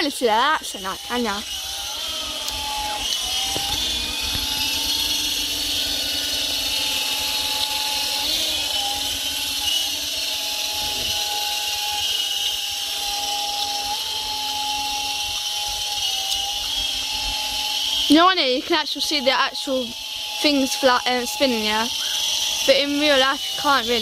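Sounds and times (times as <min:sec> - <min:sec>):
rc helicopter motor whine: 0:00.0 - 0:24.0.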